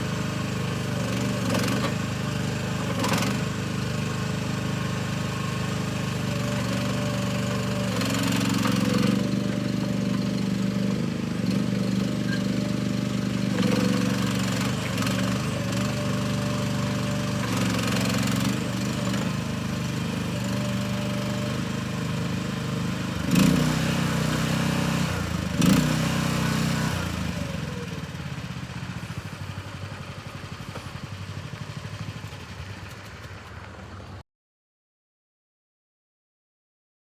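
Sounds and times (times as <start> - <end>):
mini excavator engine running: 0.0 - 34.2.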